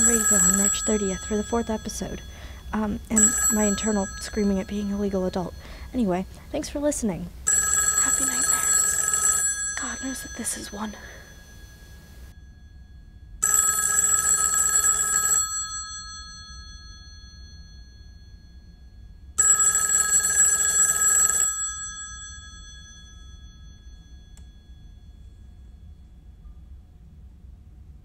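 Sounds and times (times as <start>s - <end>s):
telephone ringing: 0.0s - 6.2s, 7.4s - 25.6s.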